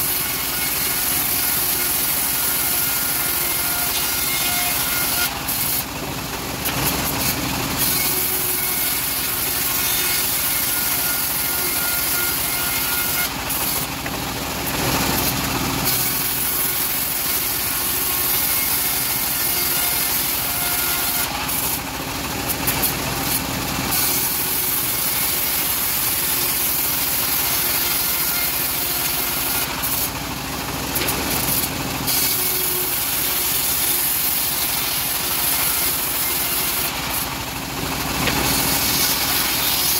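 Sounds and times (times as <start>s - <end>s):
bandsaw mill cutting wood: 0.0s - 39.9s.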